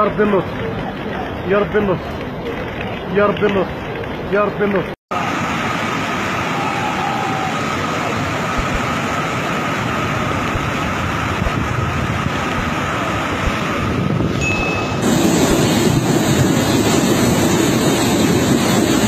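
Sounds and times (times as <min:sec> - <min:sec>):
flood water rushing down street: 0:00.0 - 0:19.0.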